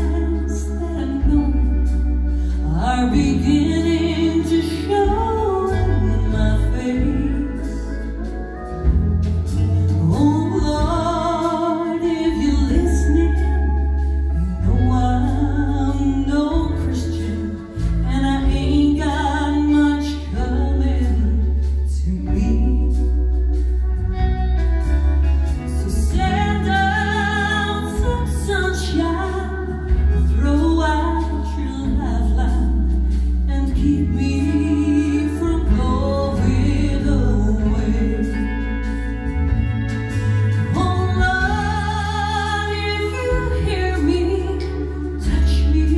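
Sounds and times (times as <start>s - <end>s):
drums: 0.0s - 45.9s
electric bass guitar: 0.0s - 45.9s
pedal steel guitar: 0.0s - 45.9s
woman singing: 0.0s - 45.9s.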